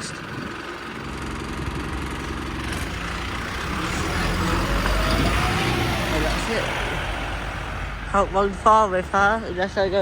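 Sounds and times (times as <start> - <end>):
bus diesel engine passing: 0.0 - 10.0.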